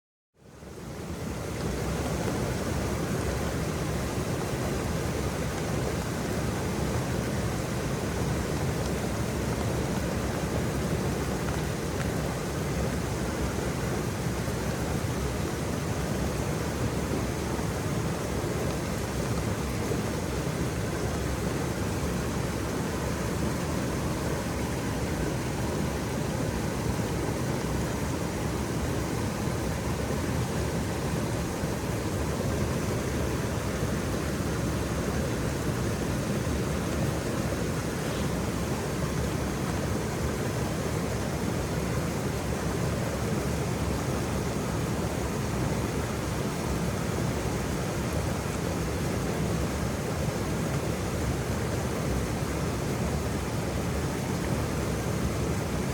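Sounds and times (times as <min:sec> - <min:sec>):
waterfall rushing: 0:01.0 - 0:55.9.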